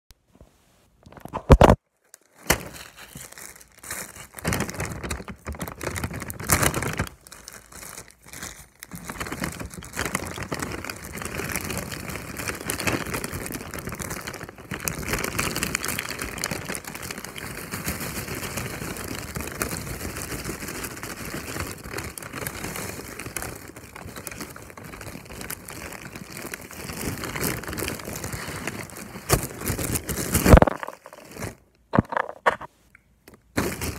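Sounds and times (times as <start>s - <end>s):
plastic bag crinkling: 1.0s - 32.7s, 33.4s - 33.9s.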